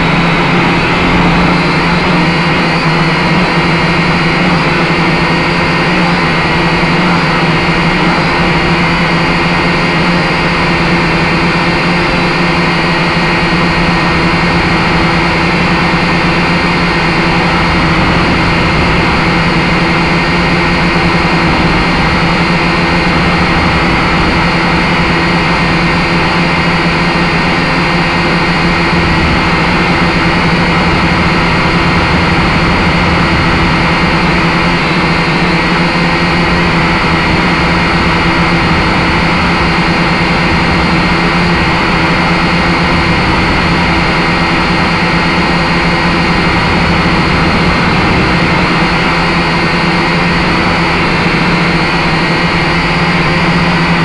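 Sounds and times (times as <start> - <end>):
drone motors whirring: 0.0 - 54.0.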